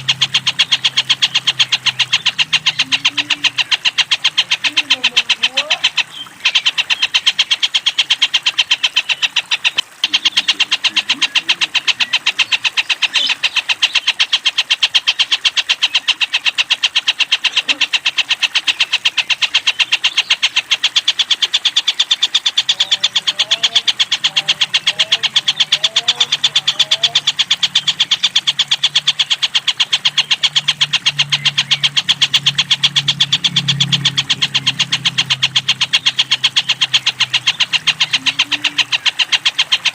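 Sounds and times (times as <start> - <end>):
kingfisher calling: 0.0 - 39.9.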